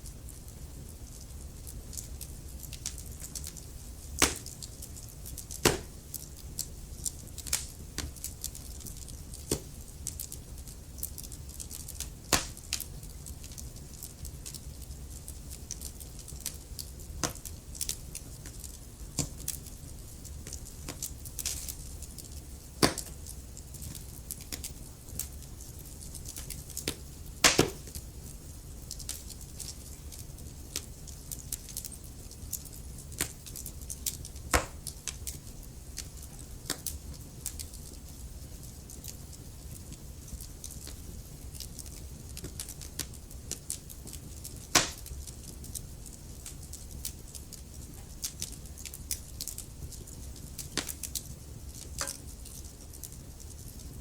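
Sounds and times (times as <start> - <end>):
wood fire snapping and popping: 0.0 - 54.0
fire flames rumbling: 0.1 - 54.0.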